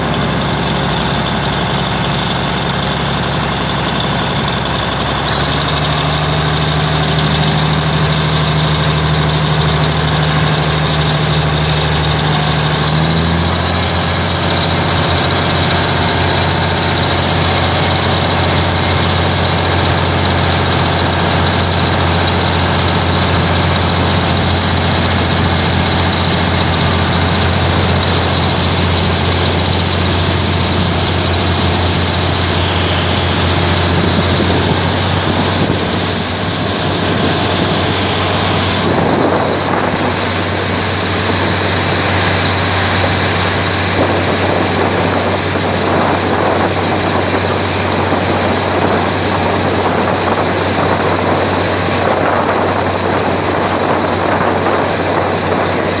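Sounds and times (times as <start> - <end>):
diesel train drone: 0.0 - 56.0
wheel and rail noise: 0.0 - 56.0.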